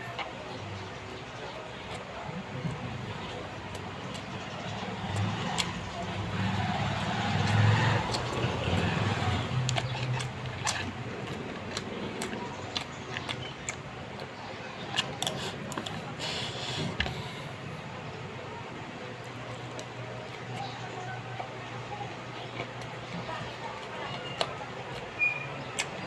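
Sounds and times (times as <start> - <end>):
chewing crunchy food: 0.0 - 17.9, 18.7 - 26.0
passing traffic rumble: 0.0 - 26.0.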